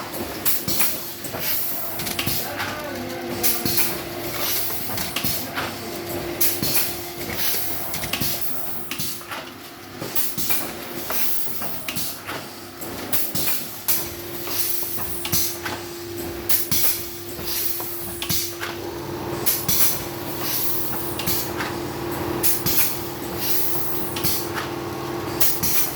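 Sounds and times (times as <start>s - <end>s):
machine clacks: 0.0s - 18.8s, 19.4s - 25.9s.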